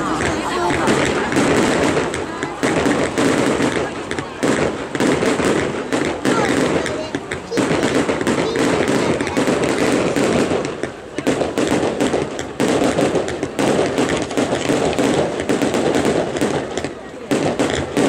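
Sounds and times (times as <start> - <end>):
fireworks bursting and crackling: 0.0 - 18.0.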